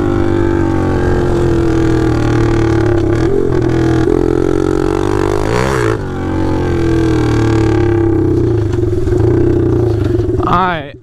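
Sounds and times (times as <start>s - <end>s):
loud dirt bike engine running: 0.0s - 11.0s.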